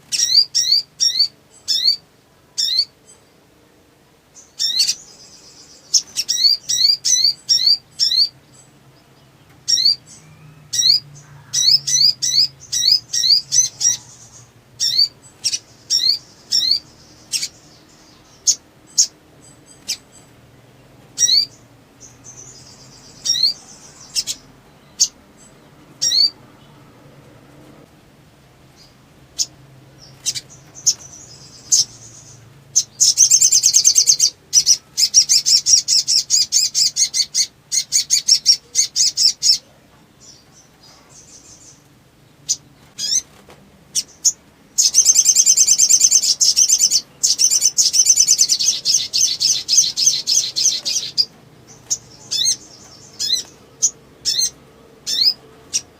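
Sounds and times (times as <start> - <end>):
sunbird chirps and trills: 0.0 - 3.5, 4.2 - 26.9, 28.6 - 55.9.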